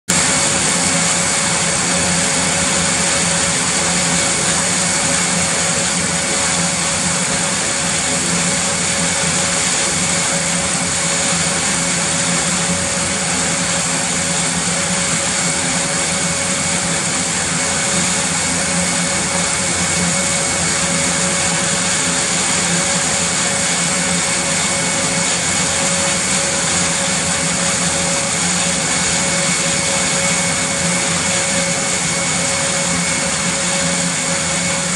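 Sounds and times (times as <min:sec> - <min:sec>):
turboprop engines droning: 0:00.1 - 0:34.9.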